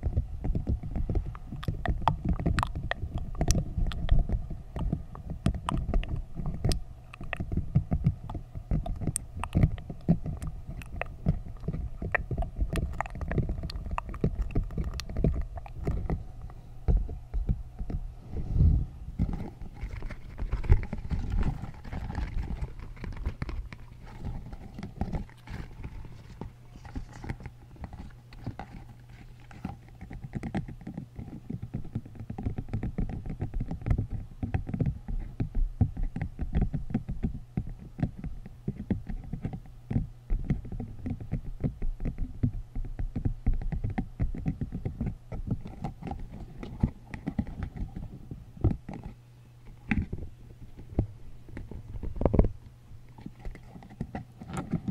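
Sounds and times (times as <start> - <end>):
rubbery taps and crackles on microphone: 0.0 - 54.9
steady low hum: 0.0 - 54.9.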